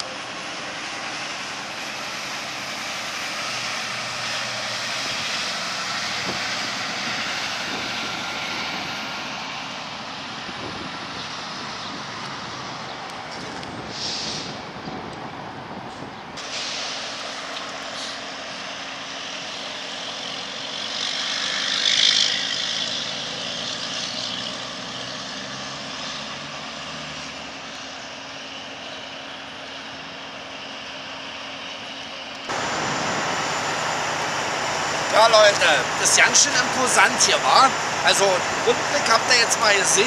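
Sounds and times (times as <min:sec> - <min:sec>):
diesel truck engine hum: 0:00.0 - 0:40.0
traffic rushing: 0:00.0 - 0:40.0.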